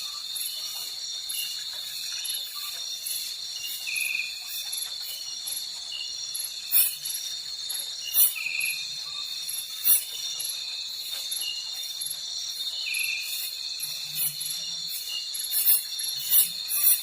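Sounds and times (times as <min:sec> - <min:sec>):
crickets and insects chirping: 0:00.0 - 0:17.0.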